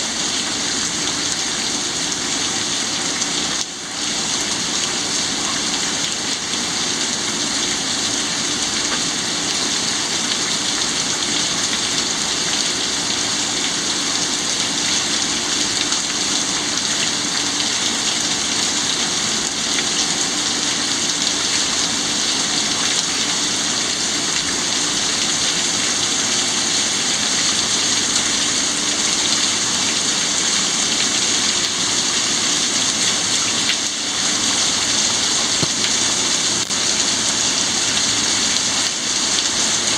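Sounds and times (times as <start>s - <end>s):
heavy rain hissing on surfaces: 0.0s - 39.9s.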